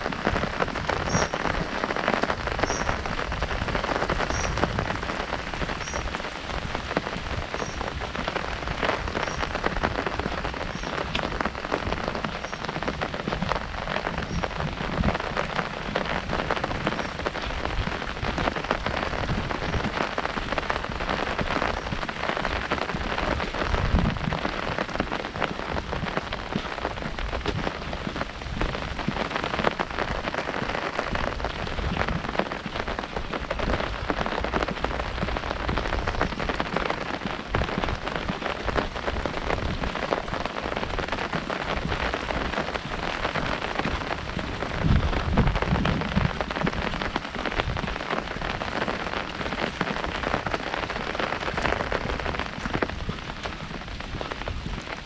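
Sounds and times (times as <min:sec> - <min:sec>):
heavy rain on umbrella: 0:00.0 - 0:55.0.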